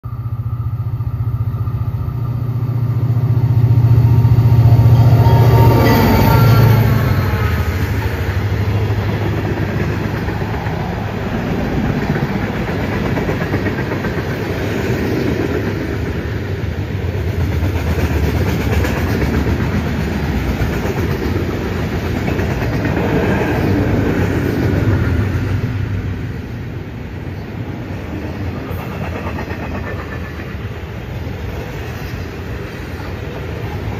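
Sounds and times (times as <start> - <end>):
diesel locomotives rumbling past: 0.0 - 33.9
train wheels clattering on rails: 3.2 - 25.9, 28.0 - 33.9.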